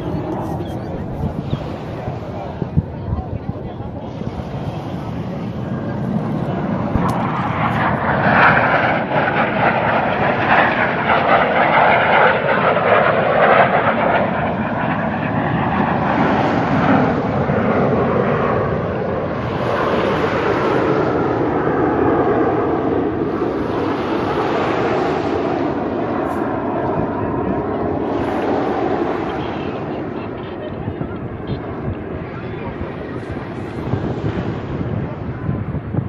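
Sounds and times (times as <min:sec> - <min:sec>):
jets flying past roaring: 0:00.0 - 0:36.0.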